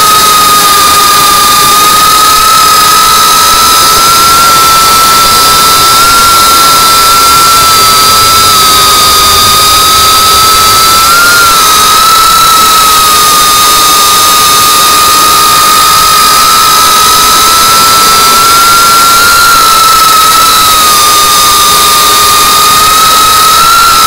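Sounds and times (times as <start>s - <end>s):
drone motors whining: 0.0s - 19.4s, 20.4s - 23.5s
rush of air noise: 0.0s - 24.0s.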